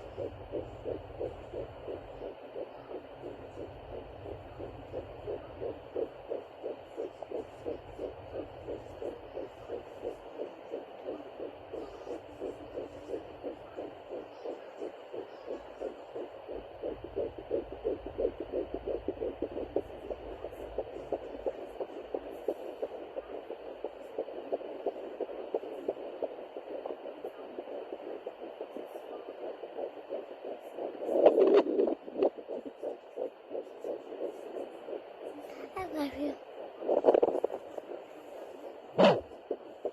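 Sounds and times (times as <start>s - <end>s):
fetal heartbeat whooshing pulses: 0.0s - 39.9s
low rumbling hiss: 0.0s - 39.9s.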